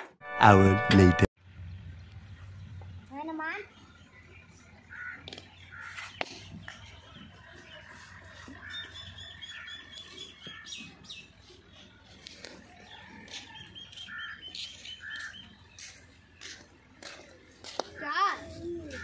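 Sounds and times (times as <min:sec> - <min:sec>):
birds calling and chirping: 0:01.4 - 0:19.0.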